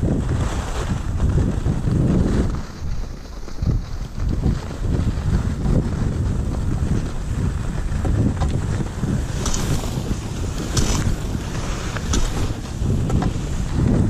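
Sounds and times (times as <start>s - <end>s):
ski edges scraping: 0.0s - 14.0s
skis hissing over packed snow: 0.0s - 14.0s
wind buffeting microphone: 0.0s - 14.0s.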